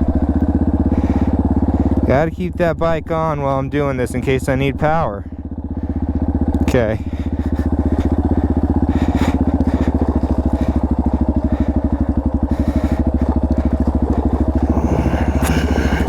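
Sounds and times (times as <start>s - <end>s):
dirt bike engine idling: 0.0s - 16.0s.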